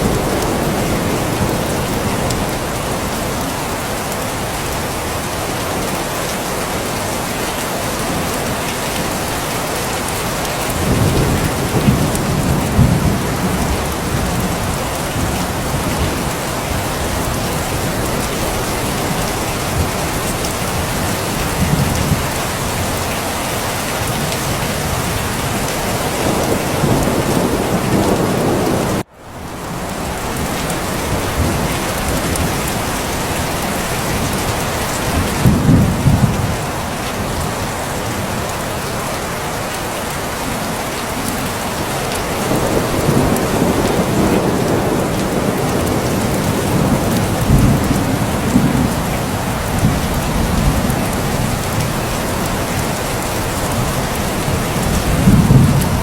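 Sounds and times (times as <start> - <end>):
thunder rumbling: 0.0 - 5.8, 10.6 - 38.9, 41.2 - 56.0
heavy rain: 0.0 - 56.0.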